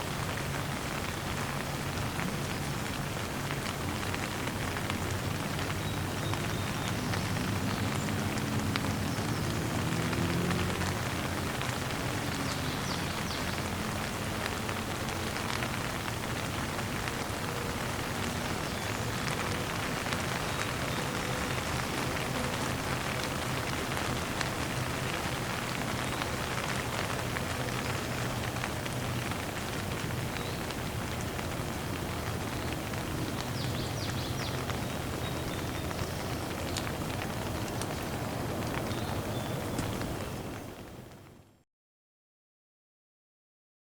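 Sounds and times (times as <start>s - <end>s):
rain pattering: 0.0s - 41.5s.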